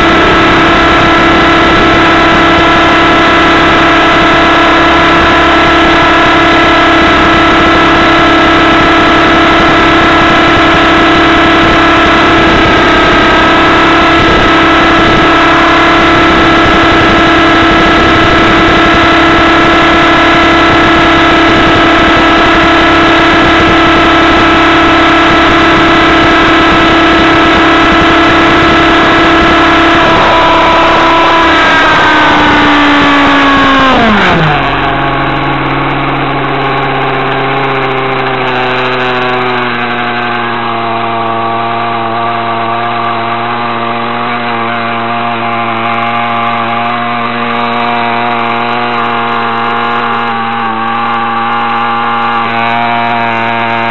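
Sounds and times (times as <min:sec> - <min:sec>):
model helicopter engine buzzing: 0:00.0 - 0:53.9.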